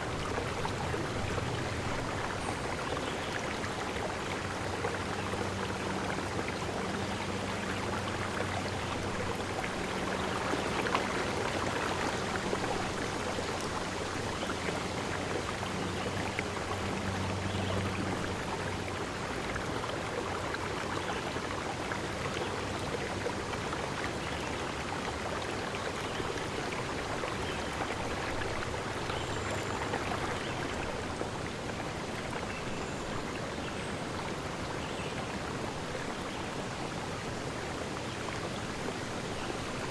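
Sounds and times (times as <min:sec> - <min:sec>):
forest stream rushing: 0:00.0 - 0:39.9.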